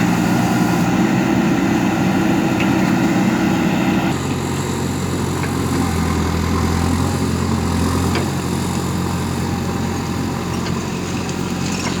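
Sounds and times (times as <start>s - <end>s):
diesel engine running at low revs: 0.0s - 12.0s.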